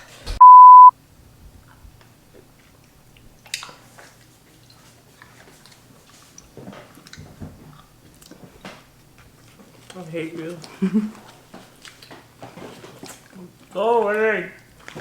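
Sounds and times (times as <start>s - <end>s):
chewing and mouth noises: 1.6s - 15.0s.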